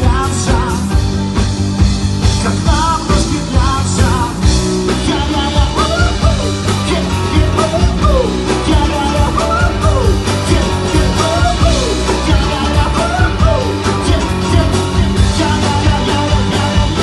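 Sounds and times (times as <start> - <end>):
live pop-rock band playing: 0.0 - 17.0.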